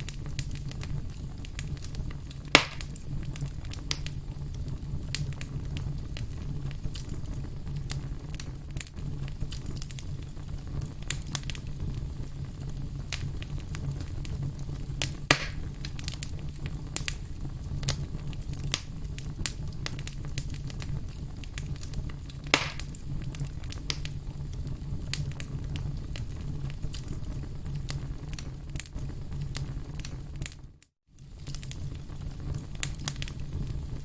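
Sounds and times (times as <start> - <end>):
firewood crackling and popping: 0.0 - 34.0.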